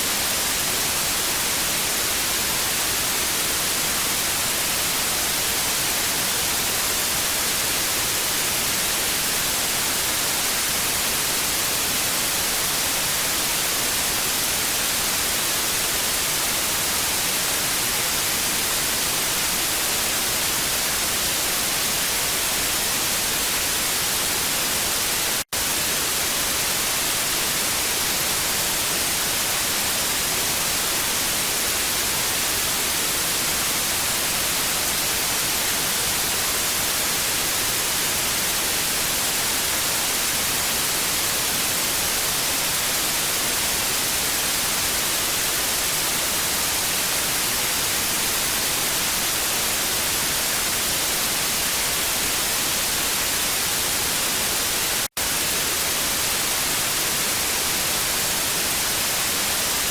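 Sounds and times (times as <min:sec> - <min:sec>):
tv static hiss: 0:00.0 - 0:59.9.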